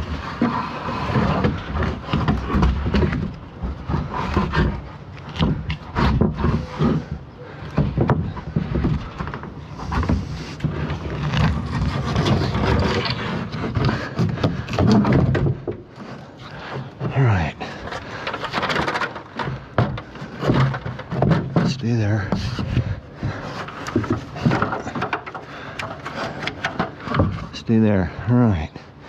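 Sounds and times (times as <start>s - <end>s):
wood knocking and scraping on wood: 0.0s - 28.0s.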